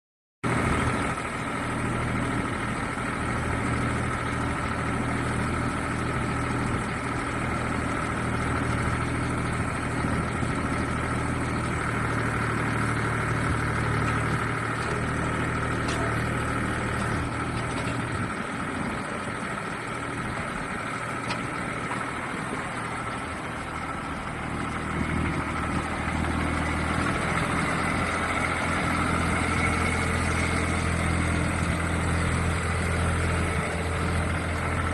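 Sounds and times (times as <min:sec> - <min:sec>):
small engine running: 0:00.5 - 0:34.9.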